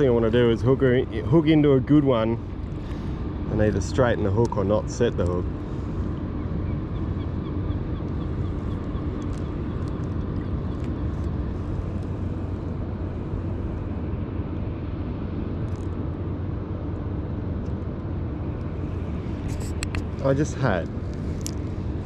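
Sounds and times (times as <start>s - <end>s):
faint constant hum: 0.0s - 22.0s
low rumble of distant machinery: 0.0s - 22.0s.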